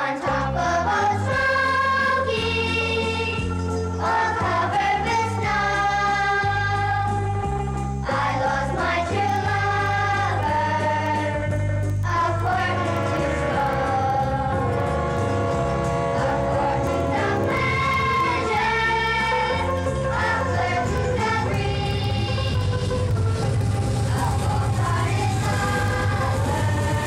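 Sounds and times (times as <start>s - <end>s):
voices singing long held notes: 0.0s - 27.0s
steady bass line: 4.4s - 27.0s.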